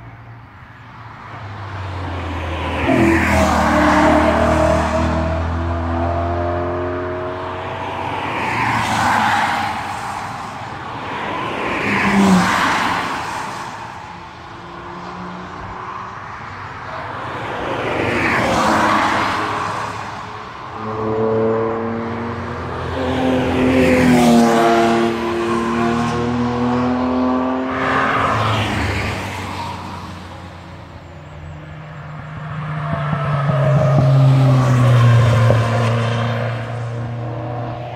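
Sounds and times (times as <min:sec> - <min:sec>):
cars passing at speed: 0:00.0 - 0:37.9.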